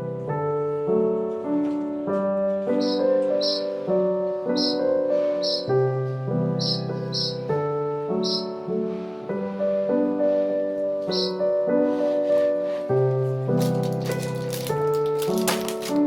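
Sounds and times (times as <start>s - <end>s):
gentle piano tune: 0.0s - 16.0s.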